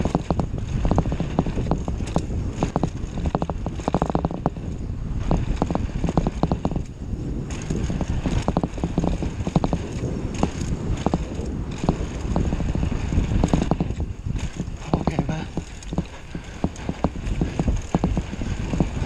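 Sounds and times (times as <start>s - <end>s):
bike clicking and rattling: 0.0s - 19.0s
tyres rumbling on gravel trail: 0.0s - 19.0s.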